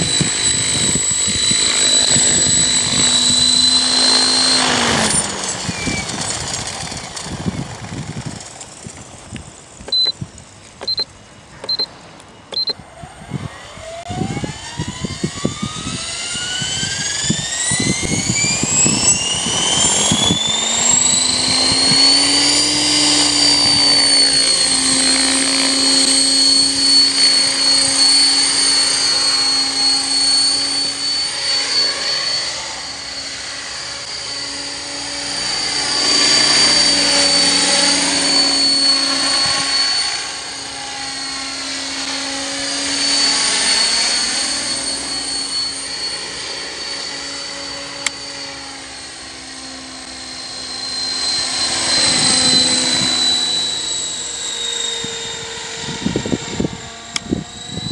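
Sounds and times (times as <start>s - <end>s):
helicopter rotor hum: 0.0s - 57.9s
high motor and gear whine: 0.0s - 57.9s.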